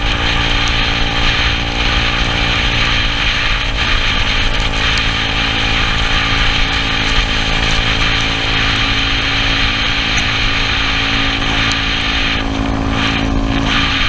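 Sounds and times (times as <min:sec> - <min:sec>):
scooter engine running: 0:00.0 - 0:14.0
wind and wet road noise: 0:00.0 - 0:14.0.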